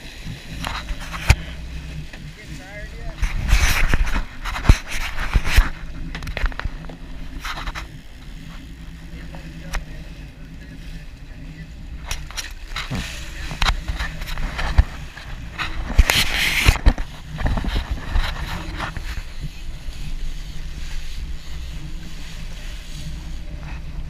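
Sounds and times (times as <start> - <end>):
wind noise: 0.0 - 9.0, 11.8 - 24.0
low engine hum: 0.0 - 24.0
waves slapping boat hull: 0.0 - 24.0.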